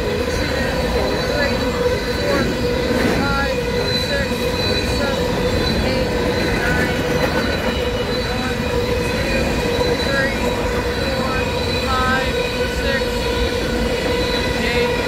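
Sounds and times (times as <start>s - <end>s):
high ringing tones: 0.0s - 15.0s
train wheels rumbling on rail: 0.0s - 15.0s.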